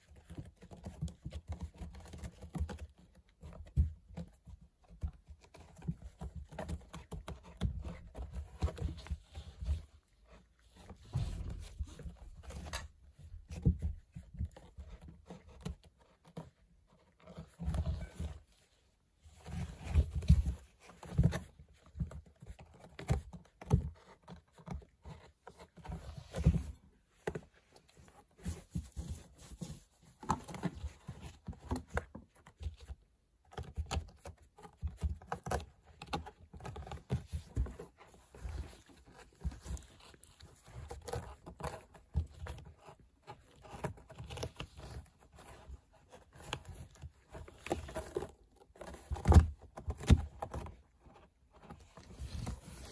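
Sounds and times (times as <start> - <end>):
cat scratching cardboard: 0.0 - 52.9.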